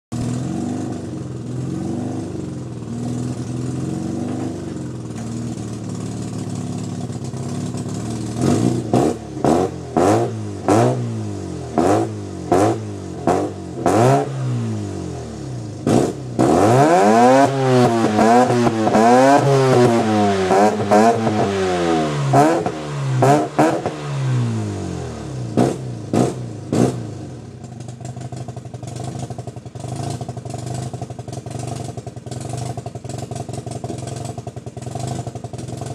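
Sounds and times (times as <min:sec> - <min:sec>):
rotary engine revving and idling: 0:00.2 - 0:35.9.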